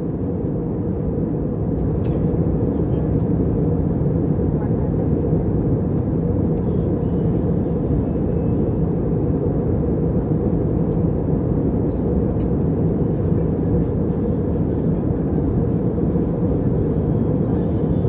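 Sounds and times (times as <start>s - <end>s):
airplane cabin engine drone: 0.0s - 18.0s.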